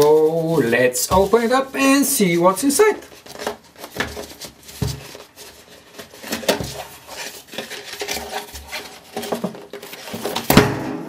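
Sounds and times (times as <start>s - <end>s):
cardboard box being handled: 0.0s - 2.4s, 3.0s - 10.5s.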